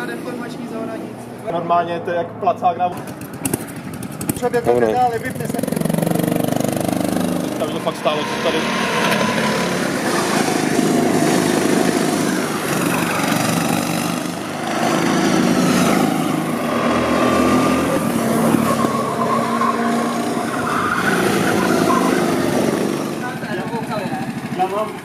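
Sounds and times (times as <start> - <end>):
go-kart engines: 0.0 - 25.0.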